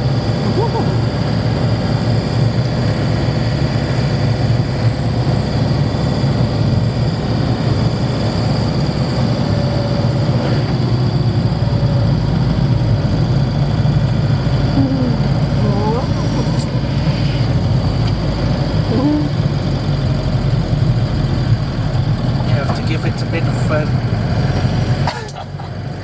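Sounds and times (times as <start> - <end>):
engine and road noise in cab: 0.0 - 26.0.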